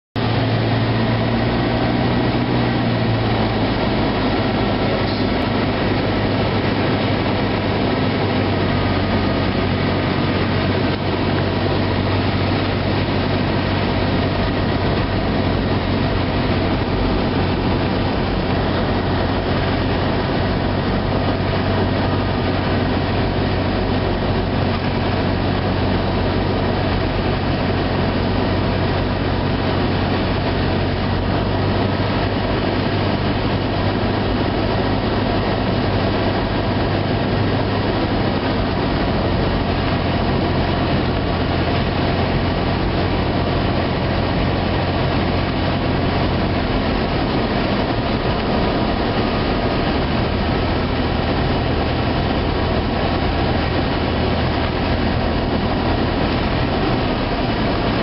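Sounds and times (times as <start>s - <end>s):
aircraft engine droning: 0.2s - 58.0s.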